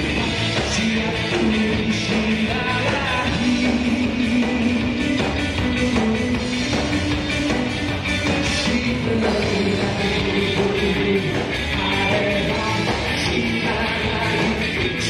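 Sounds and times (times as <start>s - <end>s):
person singing: 0.0s - 6.5s, 8.2s - 15.0s
electric bass guitar: 0.0s - 15.0s
live rock band playing: 0.0s - 15.0s.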